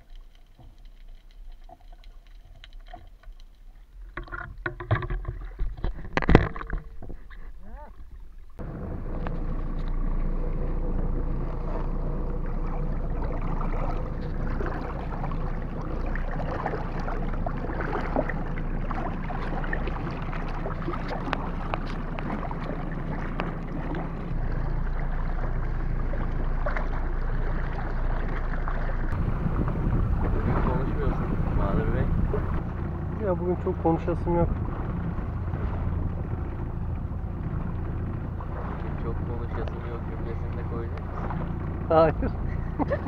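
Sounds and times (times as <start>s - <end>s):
water splashing against hull: 0.0s - 43.0s.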